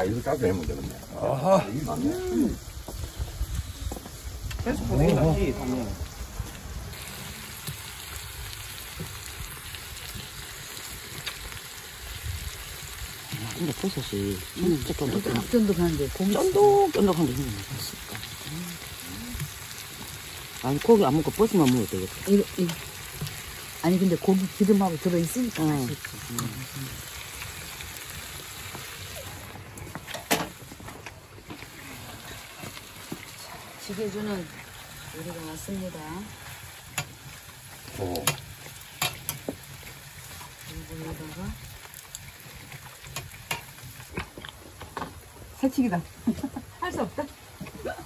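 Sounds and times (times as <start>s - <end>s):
meat sizzling on a griddle: 0.0s - 48.0s.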